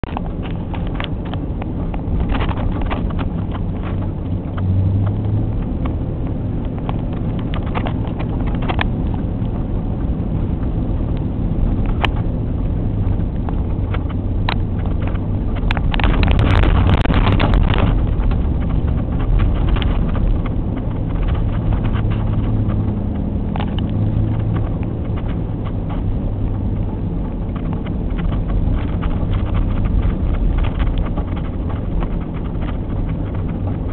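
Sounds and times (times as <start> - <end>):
tyres rolling over packed snow: 0.0 - 33.9
vehicle engine running: 0.0 - 33.9.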